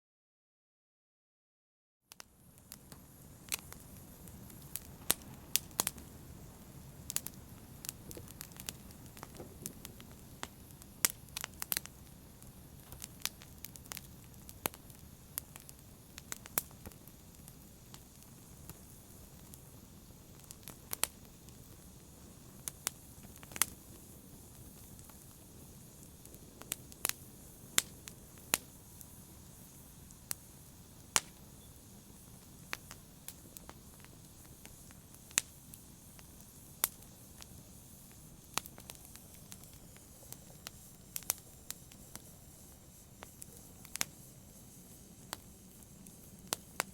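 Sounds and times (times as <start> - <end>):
fire popping: 2.2 - 46.9
wood fire crackling: 2.2 - 46.9.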